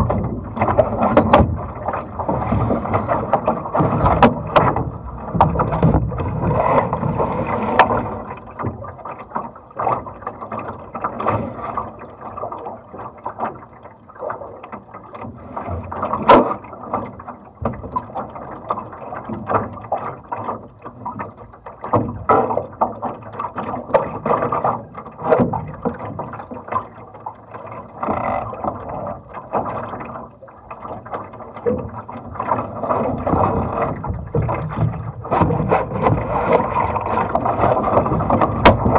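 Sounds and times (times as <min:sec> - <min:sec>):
knocks and clicks from boat: 0:00.0 - 0:38.9
water slapping against hull: 0:00.0 - 0:38.9.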